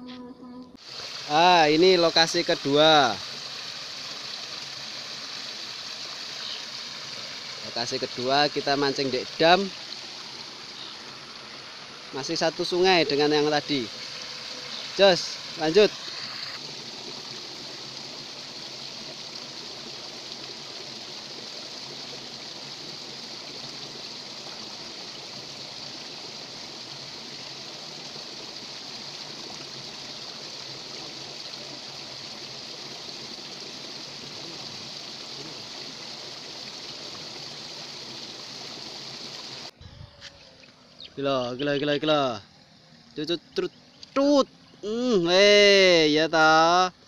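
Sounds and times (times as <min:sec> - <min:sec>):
water pouring over a weir: 0:00.8 - 0:39.7.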